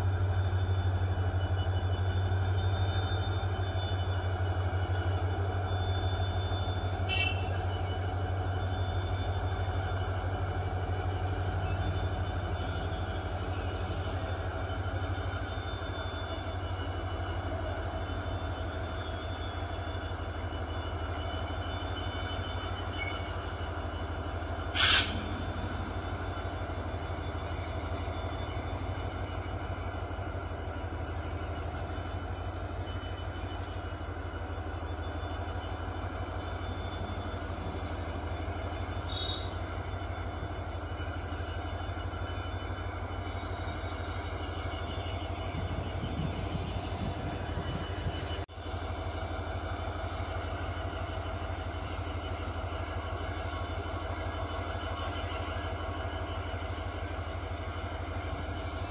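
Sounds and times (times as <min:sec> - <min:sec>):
diesel locomotive engine droning: 0:00.0 - 0:58.9.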